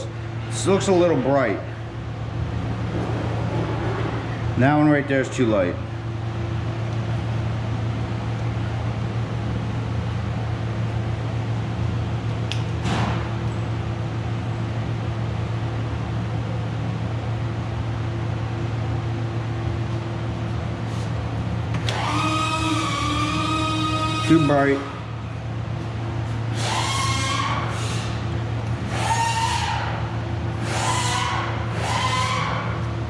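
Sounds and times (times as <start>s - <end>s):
ventilation fan humming: 0.0s - 33.0s.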